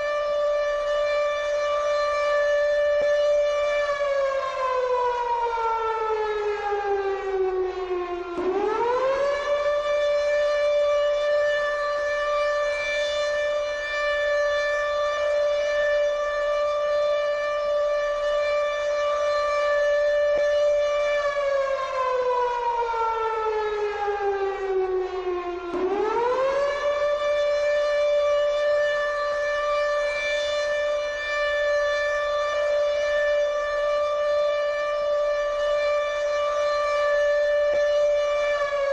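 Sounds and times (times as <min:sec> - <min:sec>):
siren wailing: 0:00.0 - 0:38.9.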